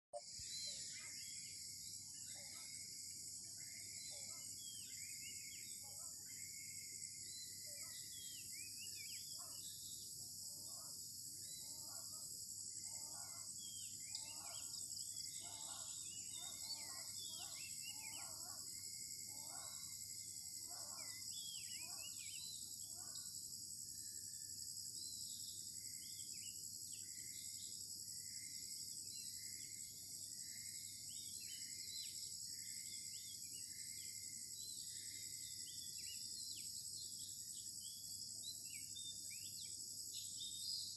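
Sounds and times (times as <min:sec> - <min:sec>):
crickets and cicadas droning: 0:00.2 - 0:40.9.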